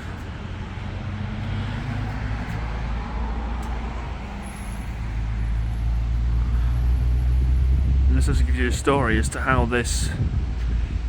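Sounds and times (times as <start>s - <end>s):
heavy engine low drone: 0.0s - 11.0s.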